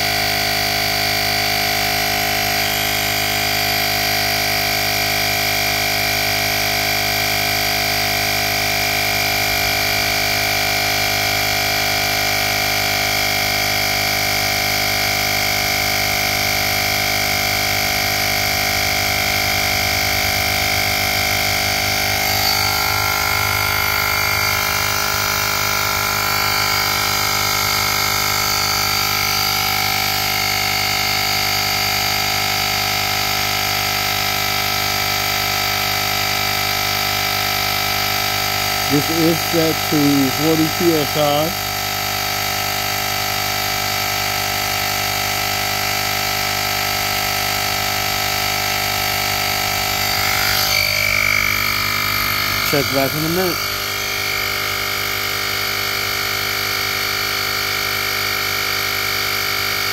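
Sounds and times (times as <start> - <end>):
air compressor humming: 0.0 - 59.9.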